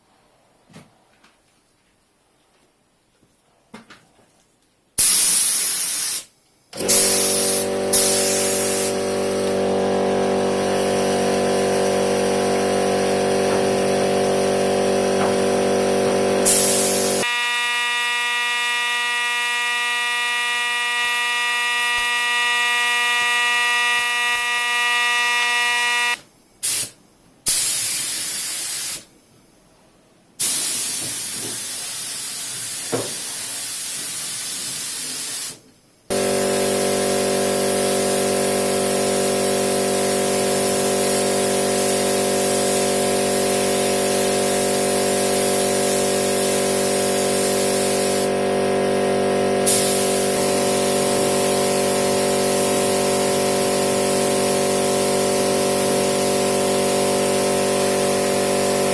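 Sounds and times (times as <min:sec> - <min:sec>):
compressed-air spray gun hissing: 0:05.0 - 0:17.4, 0:18.2 - 0:29.1, 0:30.4 - 0:58.9.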